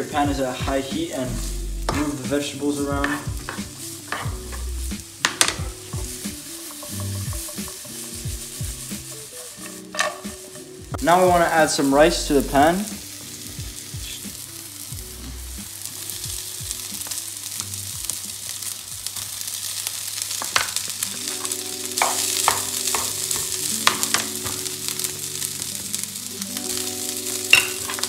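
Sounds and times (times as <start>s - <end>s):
crackles and clicks: 0.0s - 28.0s
vegetables sizzling in oil: 0.0s - 28.0s.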